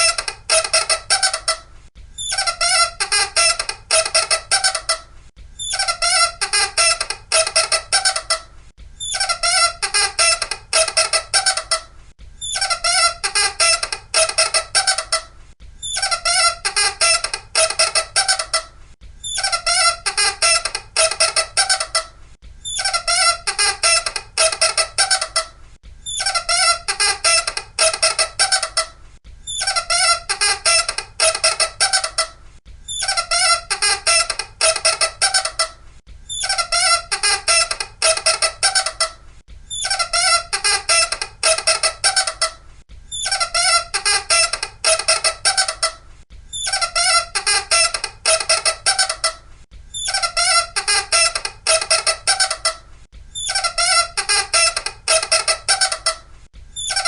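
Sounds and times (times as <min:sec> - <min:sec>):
high-pitched stuttering squeaks: 0:00.0 - 0:01.6, 0:02.2 - 0:05.0, 0:05.6 - 0:08.4, 0:09.0 - 0:11.8, 0:12.4 - 0:15.2, 0:15.8 - 0:18.6, 0:19.2 - 0:25.4, 0:26.0 - 0:28.9, 0:29.5 - 0:32.3, 0:32.9 - 0:39.1, 0:39.7 - 0:42.5, 0:43.1 - 0:56.2, 0:56.8 - 0:57.0.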